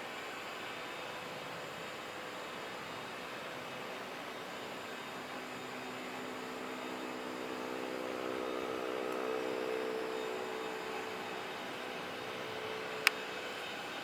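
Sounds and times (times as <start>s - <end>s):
jet engines rushing: 0.7s - 14.0s.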